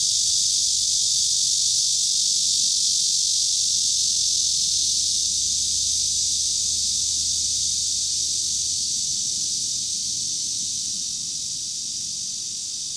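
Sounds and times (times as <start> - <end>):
cicadas singing: 0.0 - 12.9.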